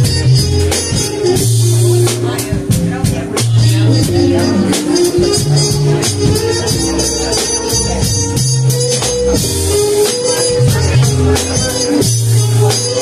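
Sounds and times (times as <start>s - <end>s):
acoustic guitar: 0.0s - 13.0s
drum kit with cymbal strokes: 0.0s - 13.0s
melody of held notes: 0.0s - 13.0s.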